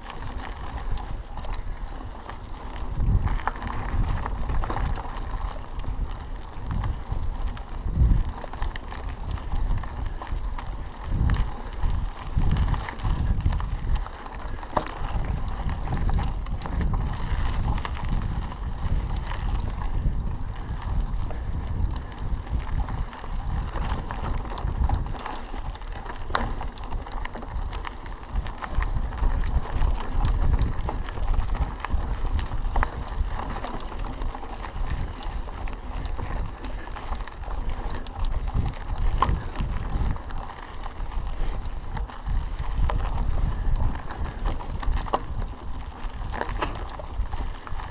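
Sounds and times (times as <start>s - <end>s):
bike clicks and rattles: 0.0s - 47.9s
bike tyres on gravel: 0.0s - 47.9s
wind buffeting microphone: 0.0s - 47.9s.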